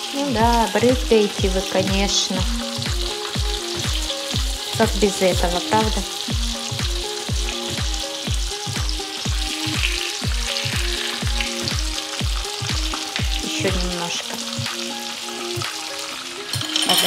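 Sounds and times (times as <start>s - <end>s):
background music with kick drum: 0.0s - 17.0s
meat sizzling in a frying pan: 0.0s - 17.0s.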